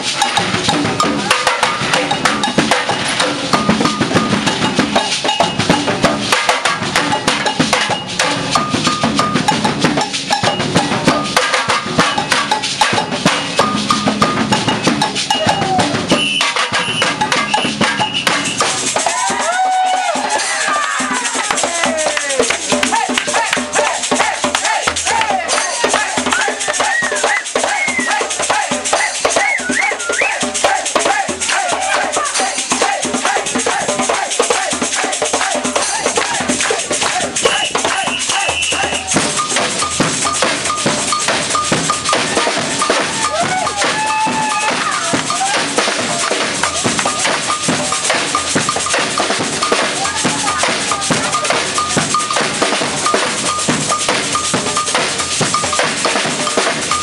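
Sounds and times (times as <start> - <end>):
cowbell beat: 0.0 - 57.0
samba percussion band: 0.0 - 57.0.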